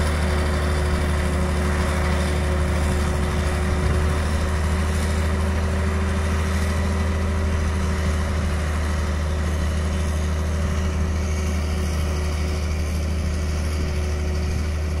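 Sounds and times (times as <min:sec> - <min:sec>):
diesel engine humming steadily: 0:00.0 - 0:15.0.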